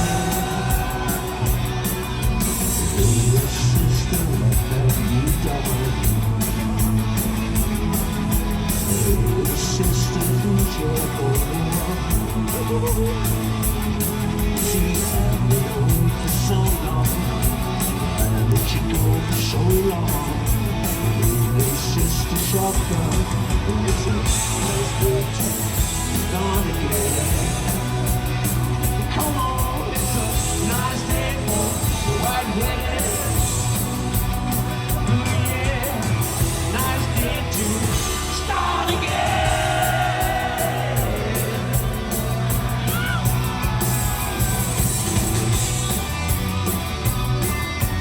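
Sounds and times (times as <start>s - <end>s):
bass guitar: 0.0s - 48.0s
cymbals keeping a beat: 0.0s - 48.0s
electric guitar: 0.0s - 48.0s
live rock band playing: 0.0s - 48.0s.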